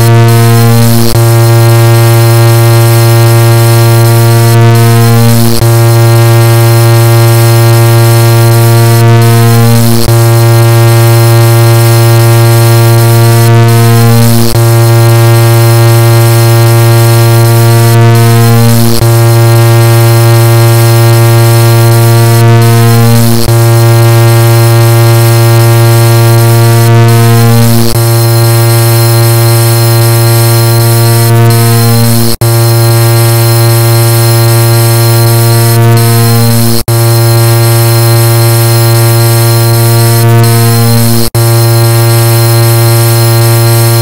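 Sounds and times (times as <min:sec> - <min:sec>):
continuous car horn tone: 0:00.0 - 0:44.0.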